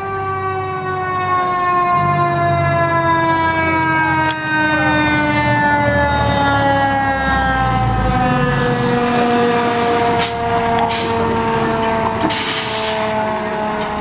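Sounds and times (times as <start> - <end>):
fire engine rumble: 0.0 - 14.0
fire engine siren winding down: 0.0 - 14.0.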